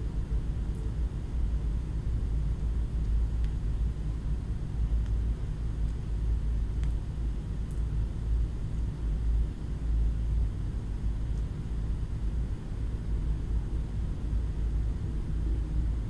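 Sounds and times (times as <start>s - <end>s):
low rumble of background noise: 0.0s - 16.0s.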